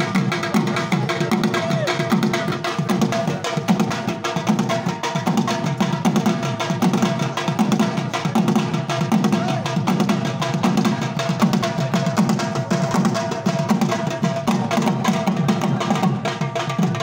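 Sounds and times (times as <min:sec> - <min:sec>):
barrel drum fast rhythm: 0:00.0 - 0:17.0.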